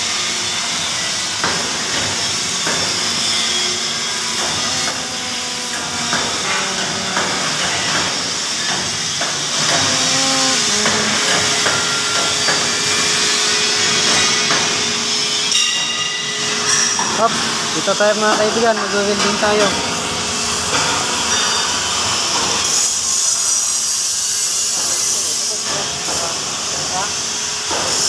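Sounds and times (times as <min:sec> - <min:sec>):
welding arc hissing and crackling: 0:00.0 - 0:15.6, 0:16.5 - 0:28.0.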